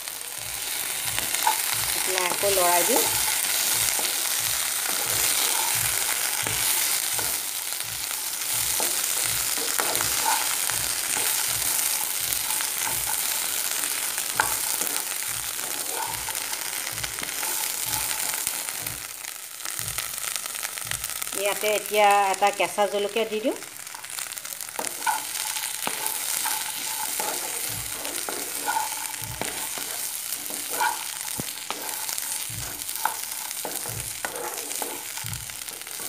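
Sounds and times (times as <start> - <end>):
food sizzling in oil: 0.0 - 36.0
wooden spatula stirring: 0.7 - 19.1, 24.1 - 36.0.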